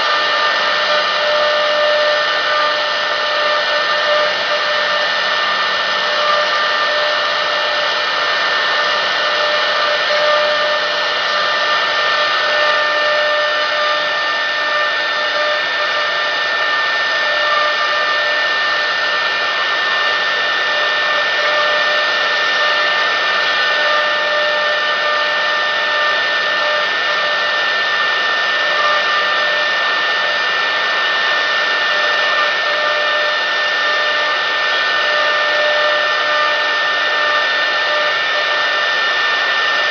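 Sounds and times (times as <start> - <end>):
bit carving wood: 0.0 - 39.9
router spindle high whine: 0.0 - 39.9.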